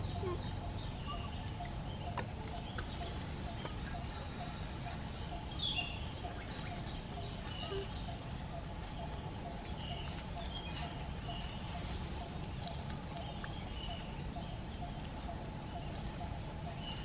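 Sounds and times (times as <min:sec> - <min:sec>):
bird chirps: 0:00.0 - 0:17.0
steady low rumble: 0:00.0 - 0:17.0.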